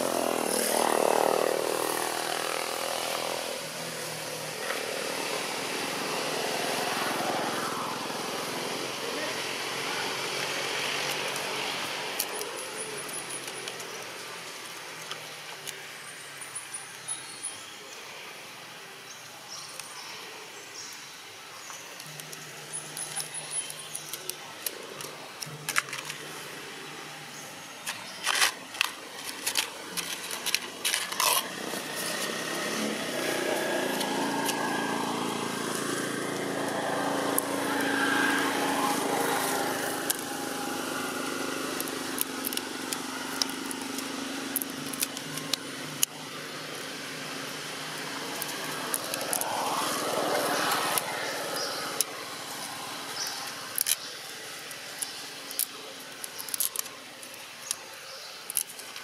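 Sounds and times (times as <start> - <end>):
motor vehicle engine droning: 0.0 - 15.8, 22.0 - 59.0.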